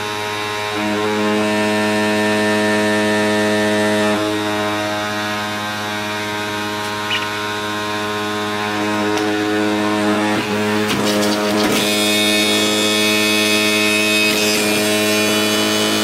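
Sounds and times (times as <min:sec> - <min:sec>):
juicer motor hum: 0:00.0 - 0:16.0.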